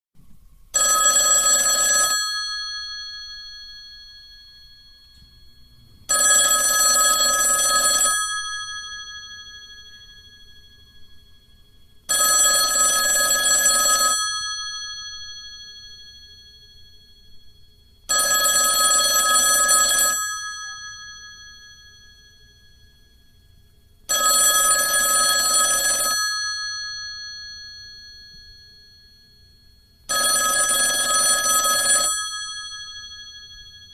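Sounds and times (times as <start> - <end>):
telephone ringing: 0.8 - 11.3, 12.0 - 33.9.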